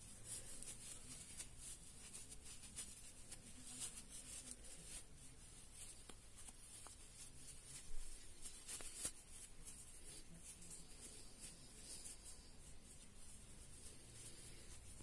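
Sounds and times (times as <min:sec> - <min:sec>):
plush fabric rustling: 0:00.0 - 0:15.0.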